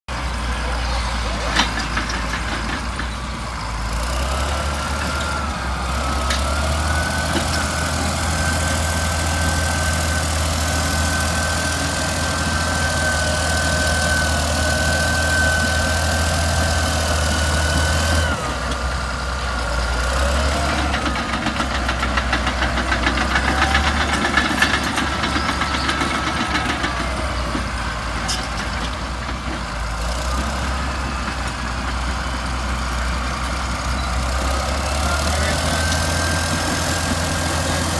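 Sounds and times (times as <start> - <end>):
bulldozer diesel engine running: 0.1 - 37.9.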